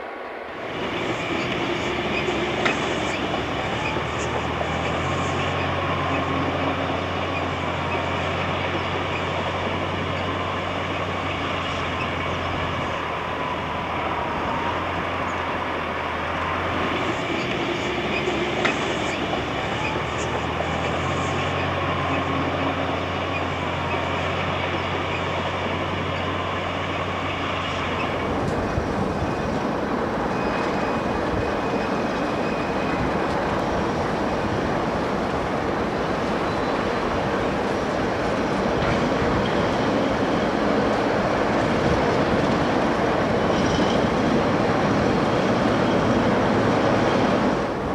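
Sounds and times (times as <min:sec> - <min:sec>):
locomotive engine drone: 0:00.0 - 0:47.9
rough train noise: 0:00.0 - 0:47.9.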